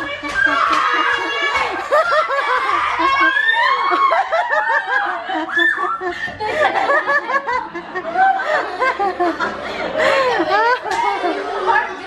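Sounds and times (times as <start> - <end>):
group of people laughing: 0.0 - 12.0
people talking: 0.0 - 12.0.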